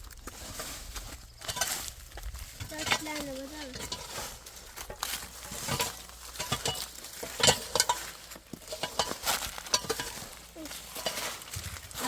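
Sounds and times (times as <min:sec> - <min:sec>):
objects clicking and knocking: 0:01.3 - 0:12.0.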